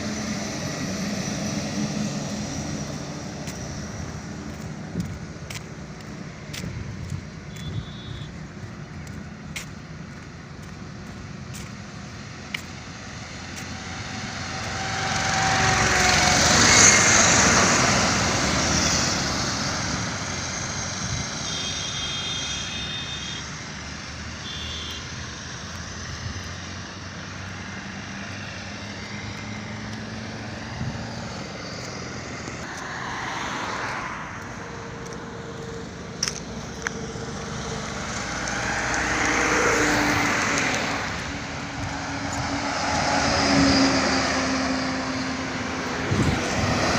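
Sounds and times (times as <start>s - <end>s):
rush of passing vehicle: 0.0s - 46.9s.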